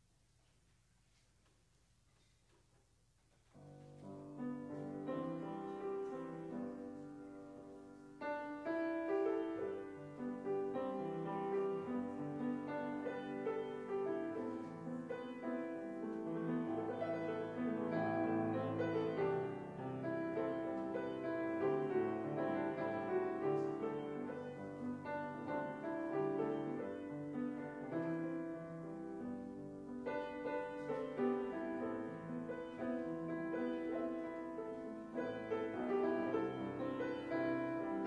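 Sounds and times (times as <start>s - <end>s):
piano music: 3.6s - 38.0s.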